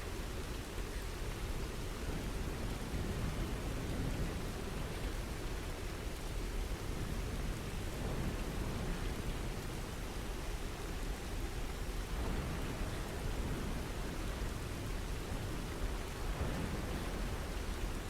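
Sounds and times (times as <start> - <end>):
steady rain hissing: 0.0 - 18.0.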